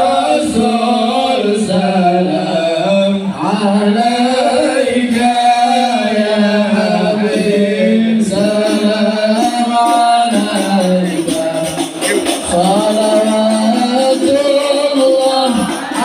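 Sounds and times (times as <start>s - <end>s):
men chanting in unison over loudspeakers: 0.0s - 16.0s.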